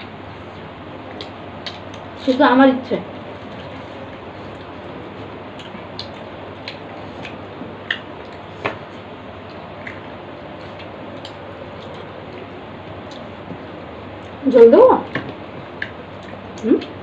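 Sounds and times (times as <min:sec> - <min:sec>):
chewing and eating by hand: 0:00.4 - 0:02.2, 0:03.3 - 0:14.4, 0:15.0 - 0:17.0.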